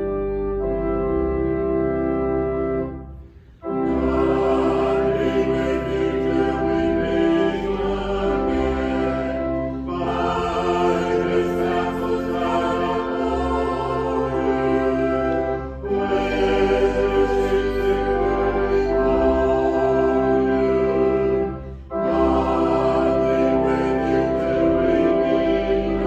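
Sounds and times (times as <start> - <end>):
accompaniment: 0.0 - 26.0
choir singing a hymn: 3.6 - 26.0.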